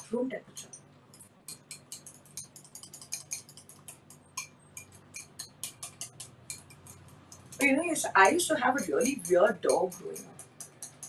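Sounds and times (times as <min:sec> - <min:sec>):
whisk clinking against glass bowl: 0:00.6 - 0:11.0.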